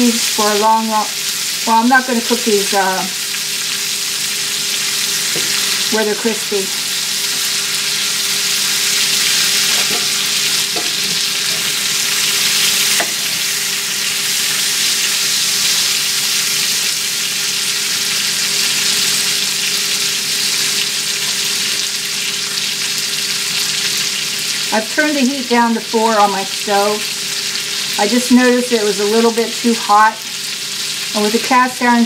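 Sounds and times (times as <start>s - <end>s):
onions and peppers sizzling in oil: 0.0s - 32.0s.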